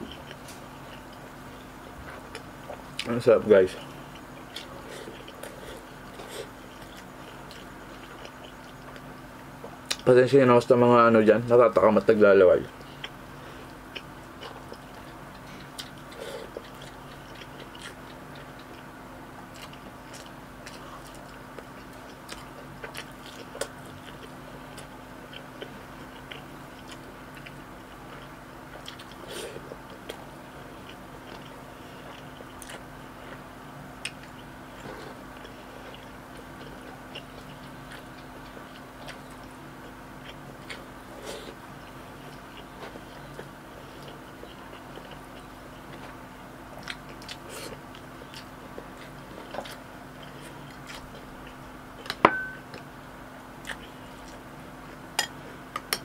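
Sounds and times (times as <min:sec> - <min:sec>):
chewing food: 0:00.0 - 0:10.1, 0:12.7 - 0:53.0, 0:53.6 - 0:56.0.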